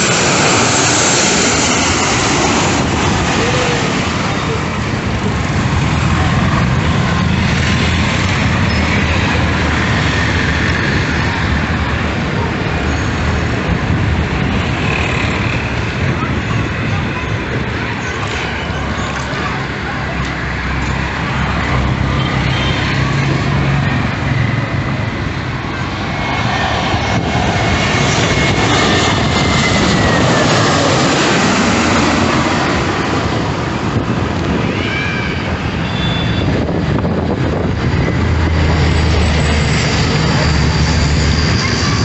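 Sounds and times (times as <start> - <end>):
jet airliner passing: 0.0 - 42.0.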